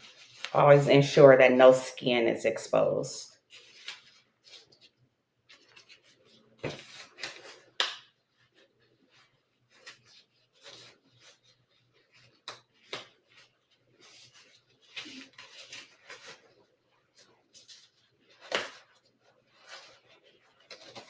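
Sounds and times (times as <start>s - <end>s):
gloves rubbing and rustling: 0.0s - 2.5s, 3.3s - 21.0s.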